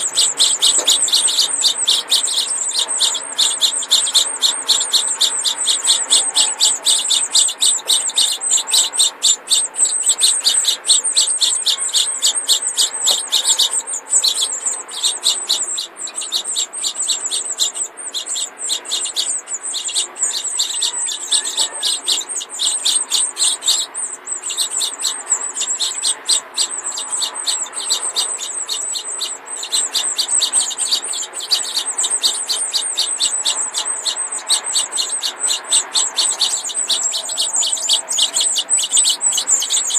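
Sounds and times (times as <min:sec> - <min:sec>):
nestlings cheeping: 0:00.0 - 0:39.9.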